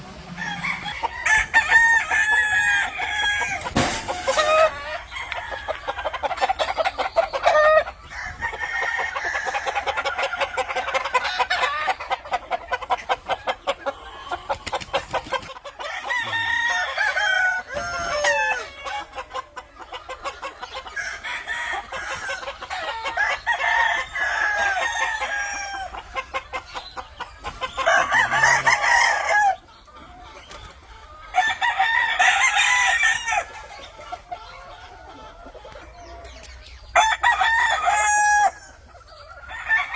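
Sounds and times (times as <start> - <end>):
chickens clucking: 0.0 - 39.9
roosters crowing: 0.0 - 39.9.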